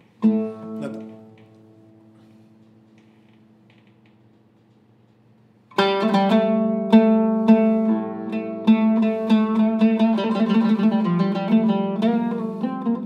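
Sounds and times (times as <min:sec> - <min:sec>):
oud plucked notes: 0:00.2 - 0:03.6, 0:05.7 - 0:13.0.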